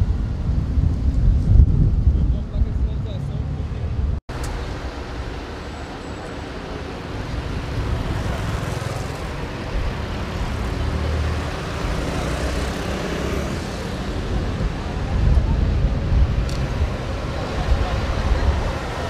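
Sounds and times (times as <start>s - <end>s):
cars passing on road: 0.0s - 19.0s.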